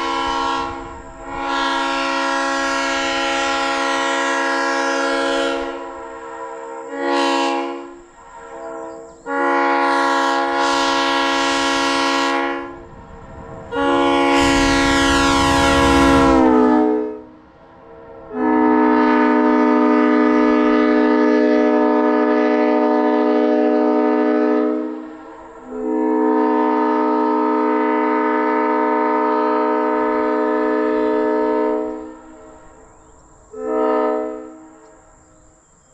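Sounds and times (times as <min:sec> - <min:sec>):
train horn chord blasts: 0:00.0 - 0:32.9, 0:33.5 - 0:35.2.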